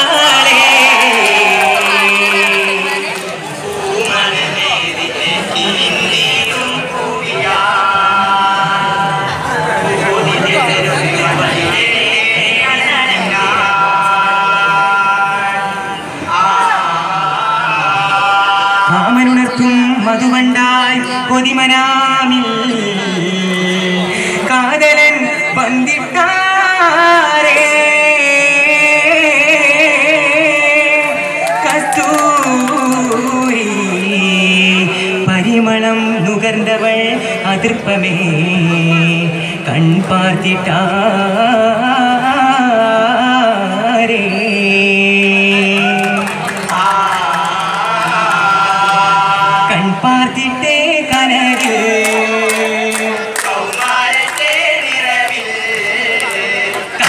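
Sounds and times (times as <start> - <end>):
person singing wedding song: 0.0 - 57.0.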